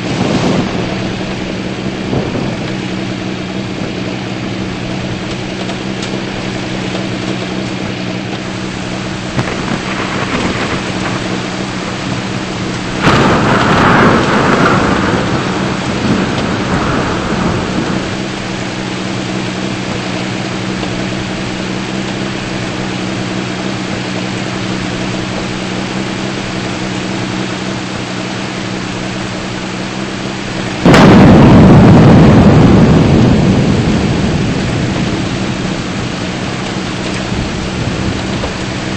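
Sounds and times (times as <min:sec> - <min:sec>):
steady rain: 0:00.0 - 0:38.9
thunder rumbling: 0:00.0 - 0:38.9.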